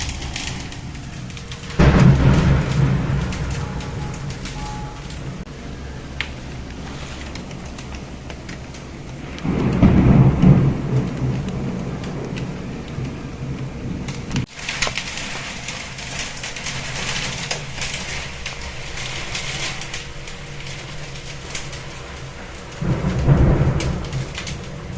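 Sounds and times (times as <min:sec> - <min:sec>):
rain hissing: 0:00.0 - 0:24.9
thunder rumbling: 0:00.0 - 0:24.9.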